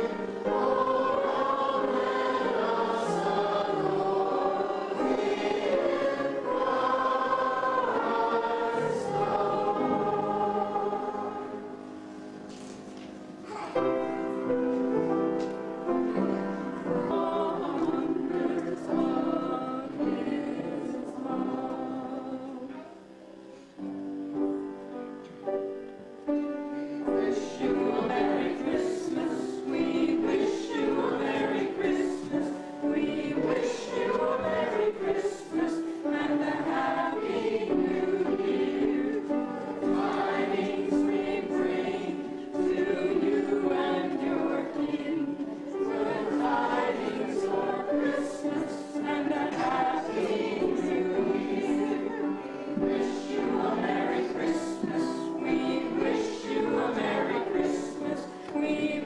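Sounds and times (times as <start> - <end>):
choir singing: 0.0 - 12.7, 13.4 - 59.0.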